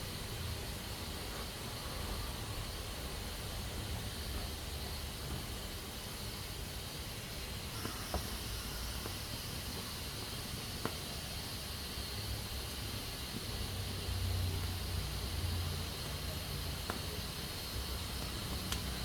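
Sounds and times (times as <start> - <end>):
pressure cooker hissing: 0.0 - 19.0.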